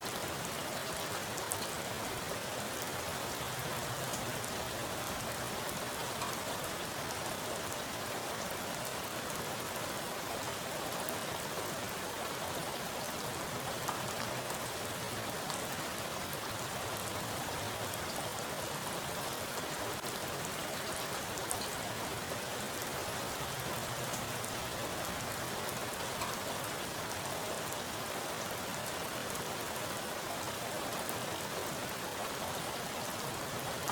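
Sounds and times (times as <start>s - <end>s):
heavy rain on water: 0.0s - 33.9s.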